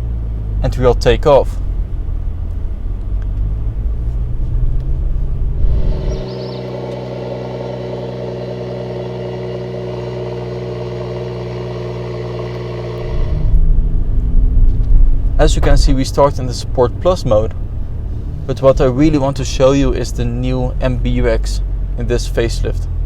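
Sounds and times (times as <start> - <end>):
car engine drone from cabin: 0.0 - 23.0.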